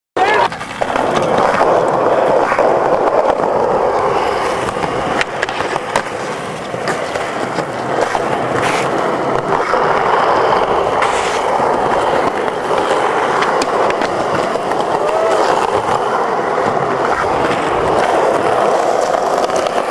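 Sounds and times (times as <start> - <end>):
skateboard deck clacking on ground: 0.2 - 19.9
skateboard wheels rolling on concrete: 0.2 - 19.9.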